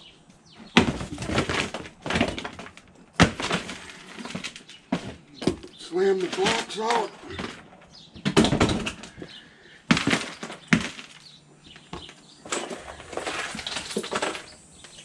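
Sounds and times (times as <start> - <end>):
ice blocks scraping and bumping: 0.7 - 7.7, 8.3 - 15.0.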